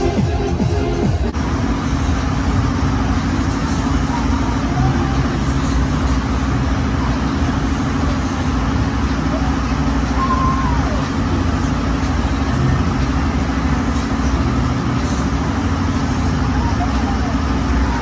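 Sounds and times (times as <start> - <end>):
techno dance music: 0.0 - 1.4, 3.2 - 18.0
faint voices: 1.7 - 18.0.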